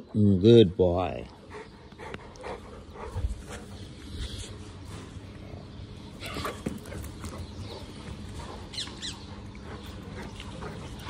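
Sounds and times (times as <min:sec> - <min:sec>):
dogs playing: 0:01.3 - 0:11.0.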